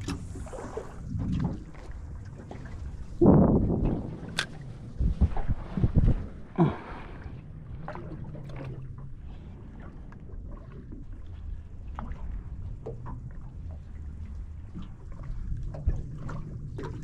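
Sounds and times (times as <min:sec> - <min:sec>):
water against boat hull: 0:00.0 - 0:17.0
water splashes: 0:00.0 - 0:17.0
wind rumble: 0:00.0 - 0:17.0.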